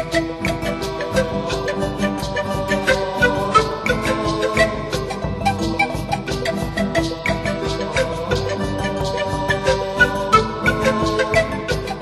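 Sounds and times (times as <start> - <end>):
background music with quick beat: 0.0 - 12.0.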